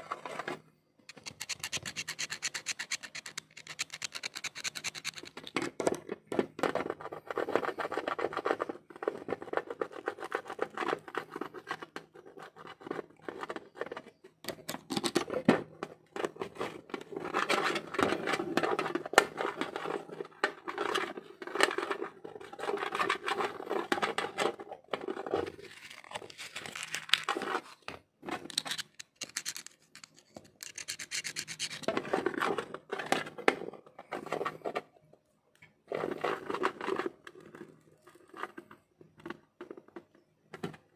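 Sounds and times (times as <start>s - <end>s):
tools scraping and clicking on plastic: 0.0s - 40.9s.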